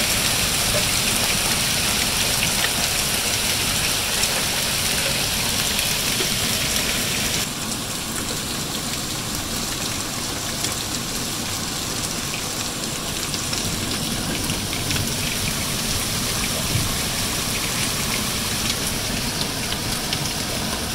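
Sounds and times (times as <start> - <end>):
heavy rain on leaves: 0.0 - 20.9
raindrops ticking close by: 0.0 - 20.9.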